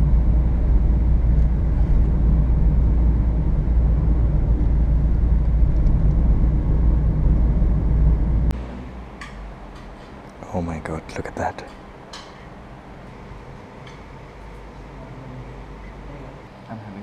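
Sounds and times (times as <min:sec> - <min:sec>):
vehicle road and wind rumble: 0:00.0 - 0:16.6.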